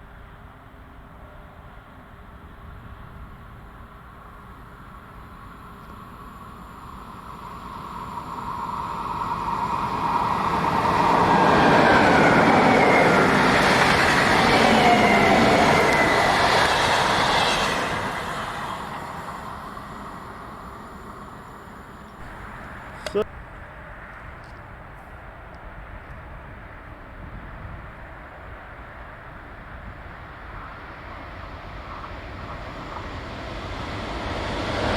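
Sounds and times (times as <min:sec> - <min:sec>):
train rumble and rail noise: 0:00.0 - 0:34.9.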